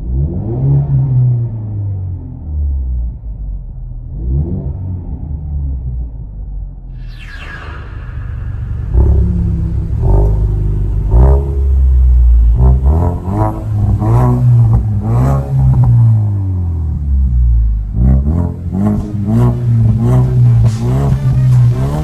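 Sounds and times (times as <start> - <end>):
car engine idling and revving: 0.0 - 6.9, 8.3 - 22.0.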